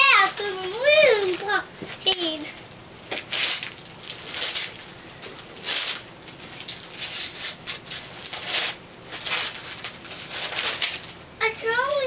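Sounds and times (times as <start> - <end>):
wrapping paper tearing and crinkling: 0.0 - 11.2.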